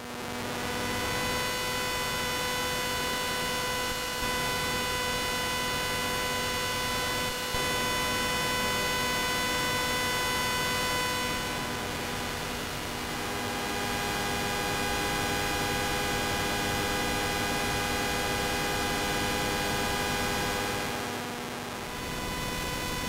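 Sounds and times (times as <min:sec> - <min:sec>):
steady electronic buzz: 0:00.2 - 0:23.0.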